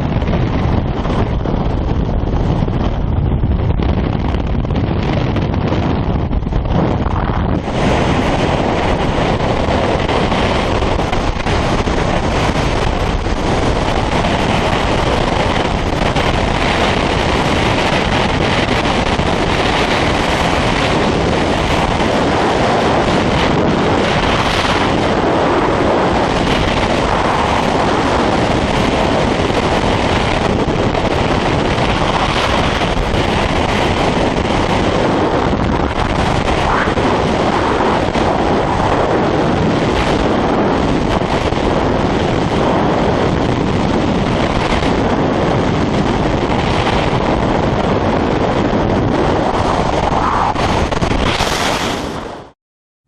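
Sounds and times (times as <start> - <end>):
wind rushing over microphone: 0.0 - 52.6.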